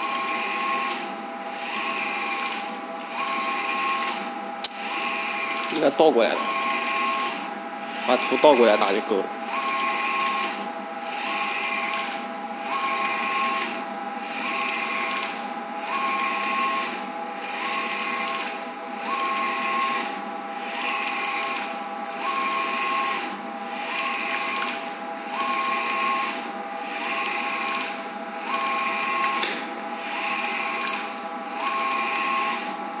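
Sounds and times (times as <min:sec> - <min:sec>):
printer carriage whirring: 0:00.0 - 0:33.0
steady machine hum: 0:00.0 - 0:33.0.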